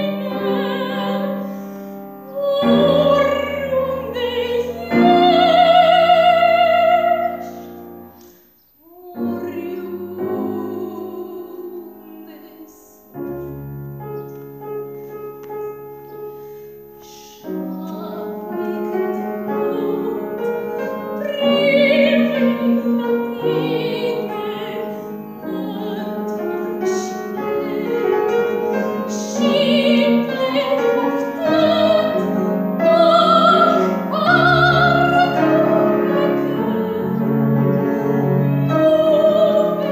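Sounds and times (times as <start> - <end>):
woman singing operatically: 0.0 - 1.5, 2.3 - 7.6, 8.8 - 13.2, 17.2 - 39.9
grand piano: 0.0 - 39.9.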